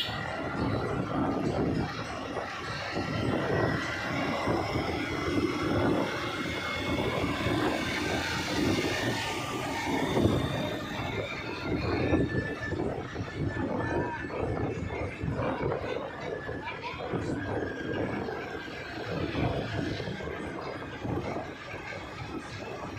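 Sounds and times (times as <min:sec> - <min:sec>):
engine and tyre rumble: 0:00.0 - 0:22.9
wind buffeting microphone: 0:00.0 - 0:22.9.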